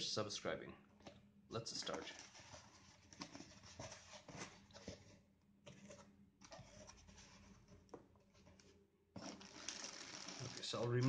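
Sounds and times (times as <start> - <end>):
cardboard and plastic rustling: 1.7 - 11.0.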